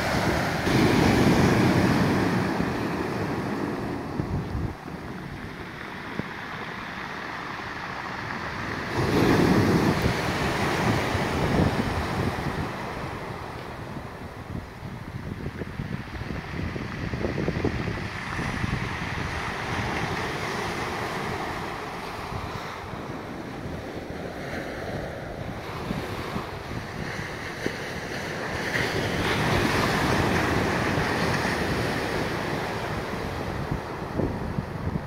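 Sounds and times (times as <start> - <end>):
sea surf breaking on shore: 0.0 - 35.0
wind buffeting microphone: 0.0 - 35.0.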